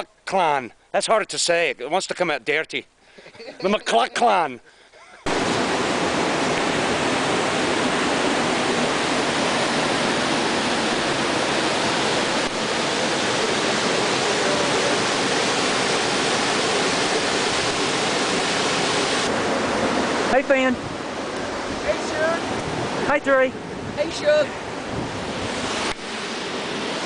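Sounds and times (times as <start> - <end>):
river cascade roaring: 3.2 - 27.0.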